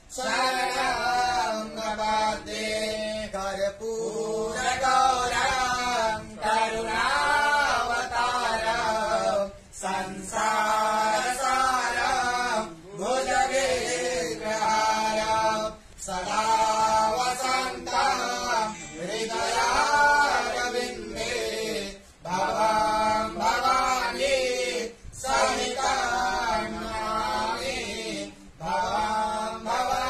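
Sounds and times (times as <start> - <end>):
devotional hymn sung slowly: 0.0 - 30.0.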